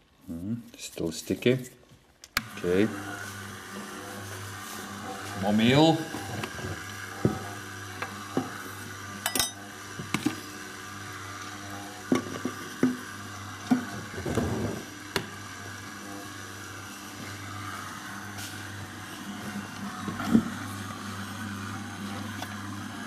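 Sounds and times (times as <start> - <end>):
electric mixer humming: 2.4 - 23.0.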